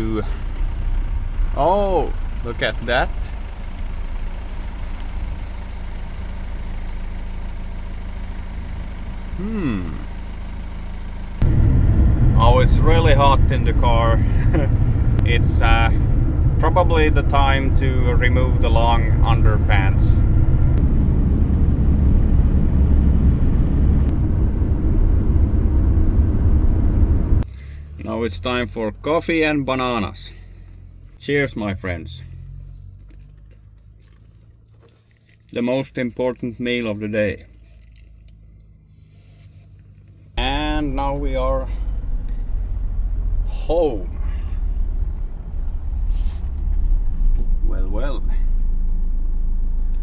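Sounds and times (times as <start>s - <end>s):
car engine running inside cabin: 0.0s - 50.0s.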